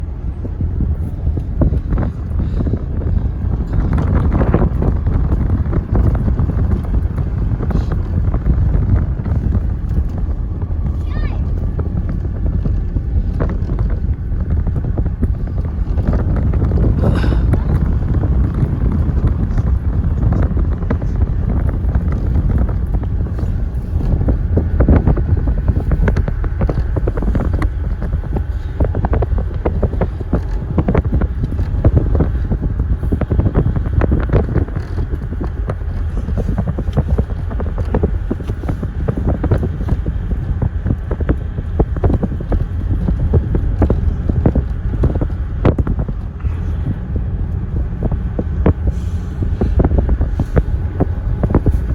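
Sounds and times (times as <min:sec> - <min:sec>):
vehicle rumble: 0:00.0 - 0:51.9
wind buffeting microphone: 0:00.0 - 0:51.9.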